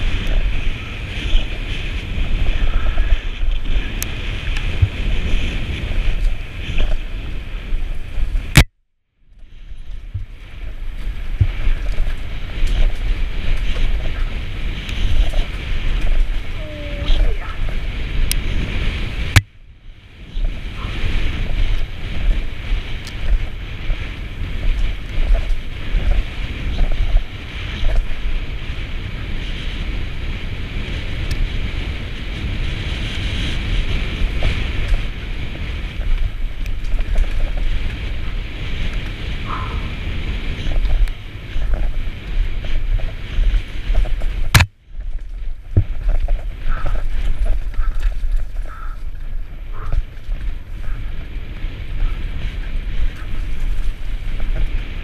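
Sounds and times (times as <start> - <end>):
bike rattling over rocks: 0.0 - 8.6, 9.4 - 19.4, 20.1 - 55.0
wind buffeting microphone: 0.0 - 55.0.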